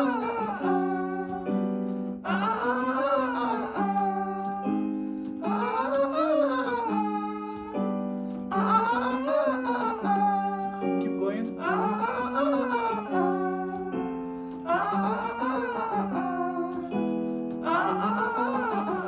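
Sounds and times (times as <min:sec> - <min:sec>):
person singing vocal warm-up: 0:00.0 - 0:19.0
steady instrument notes: 0:00.0 - 0:19.0.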